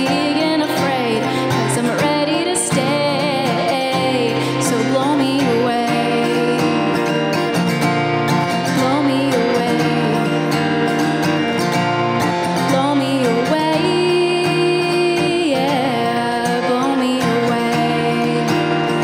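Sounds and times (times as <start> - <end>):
woman singing: 0.0 - 11.5, 12.5 - 19.0
strummed acoustic guitar: 0.0 - 19.0.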